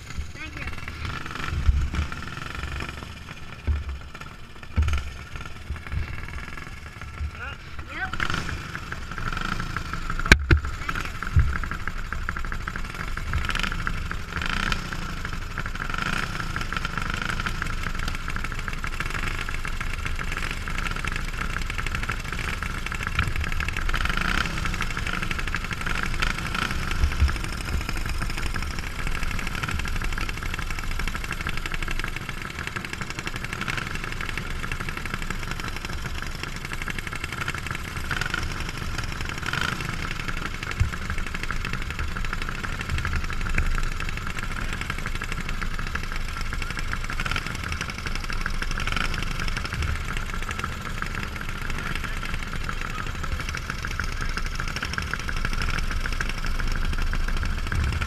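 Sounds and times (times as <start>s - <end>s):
go-kart engine idling: 0.0s - 58.0s
other kart engines running: 0.0s - 58.0s.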